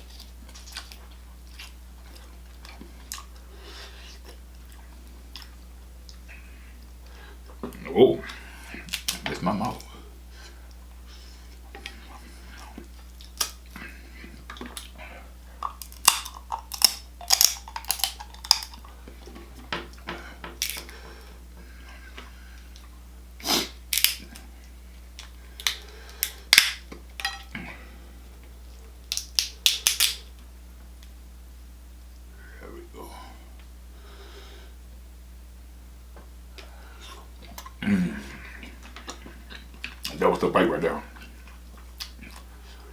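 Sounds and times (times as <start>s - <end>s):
person chewing wetly: 0.0s - 30.2s, 36.5s - 40.4s, 41.1s - 42.9s.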